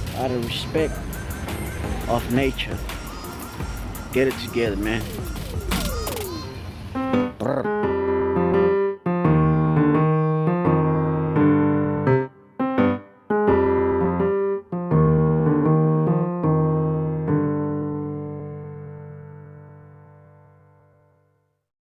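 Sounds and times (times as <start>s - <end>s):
electric piano chords: 0.0s - 21.4s.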